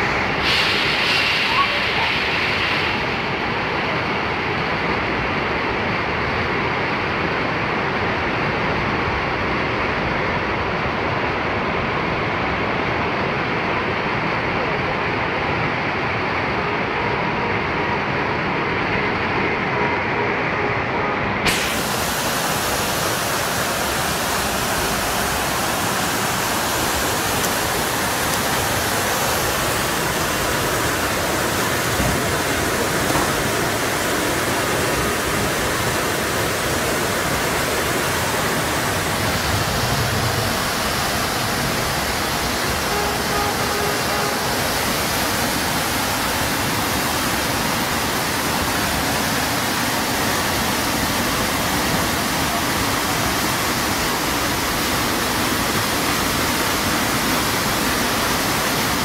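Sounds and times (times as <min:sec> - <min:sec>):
flood water rushing: 0:00.0 - 0:59.0.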